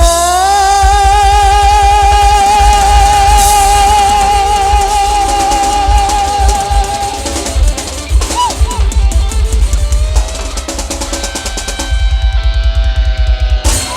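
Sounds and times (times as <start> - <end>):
heavy bass beat: 0.0 - 13.9.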